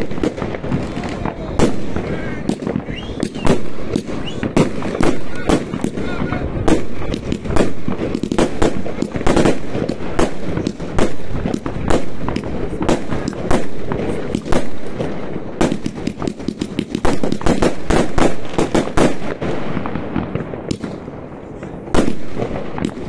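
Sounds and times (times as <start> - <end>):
fireworks banging and cracking: 0.0 - 23.0.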